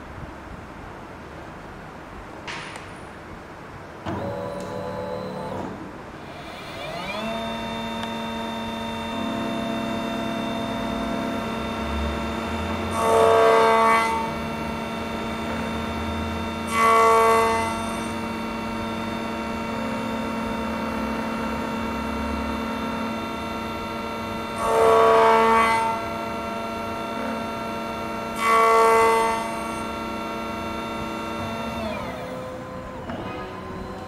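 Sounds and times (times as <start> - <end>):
key cutting machine motor hum: 4.1 - 34.0
cutter pitched bursts: 6.2 - 34.0.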